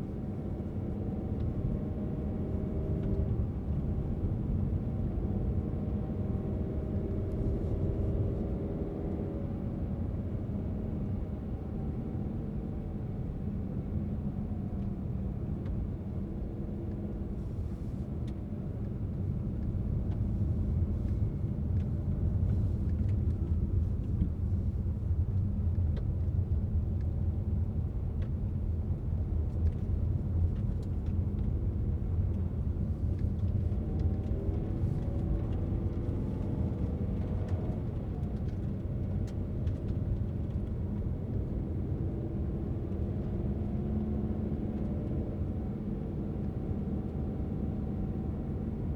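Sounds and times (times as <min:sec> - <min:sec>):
car engine rumble: 0:00.0 - 0:48.9.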